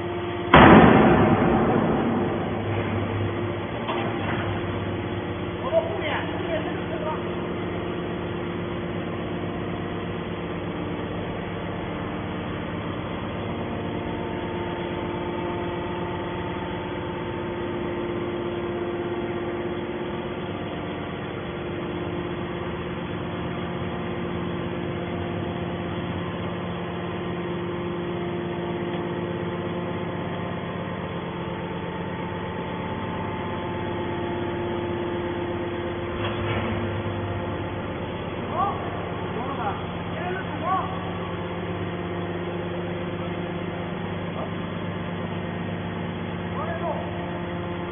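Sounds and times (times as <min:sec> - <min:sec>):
hydraulic machine humming: 0:00.0 - 0:47.9.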